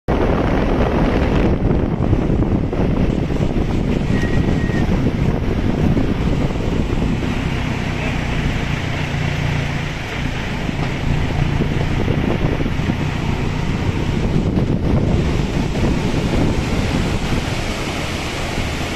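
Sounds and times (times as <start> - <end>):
road and wind noise: 0.0 - 18.9
low engine hum: 0.1 - 18.9.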